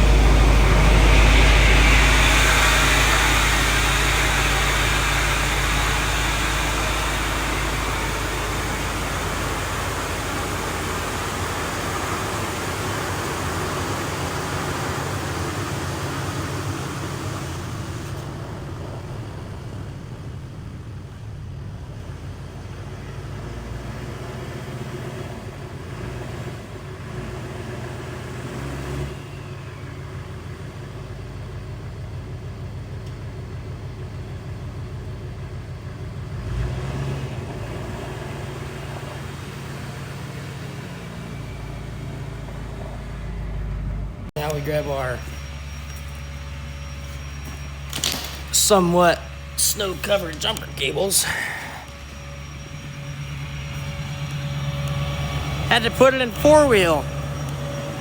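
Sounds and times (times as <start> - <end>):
pickup truck engine running: 0.0 - 58.0.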